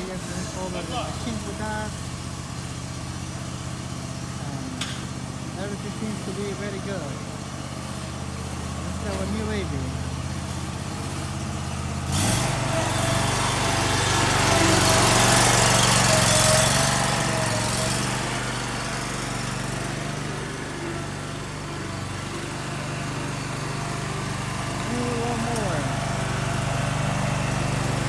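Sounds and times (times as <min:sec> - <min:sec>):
riding mower engine running: 0:00.0 - 0:28.0.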